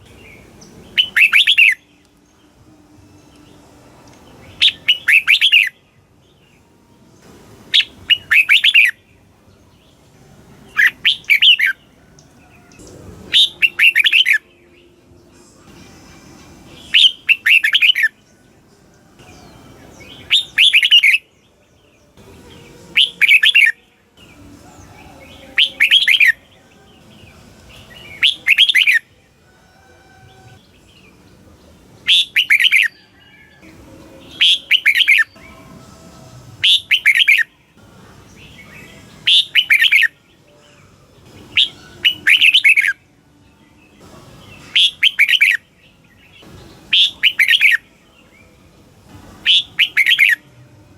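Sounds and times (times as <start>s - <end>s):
bulbul singing warbled phrases: 0.0s - 29.5s, 30.2s - 50.9s.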